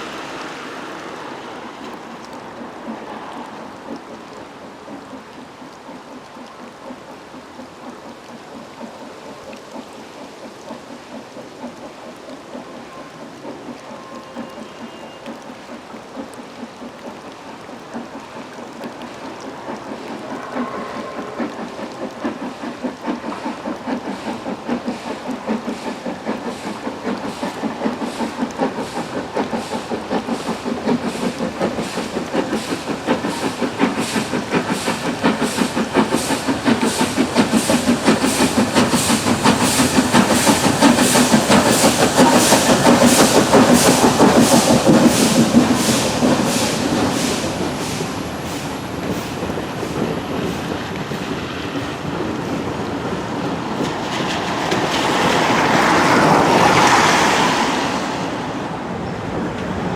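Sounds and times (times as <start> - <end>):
steam locomotive exhaust beat: 0.0 - 59.9.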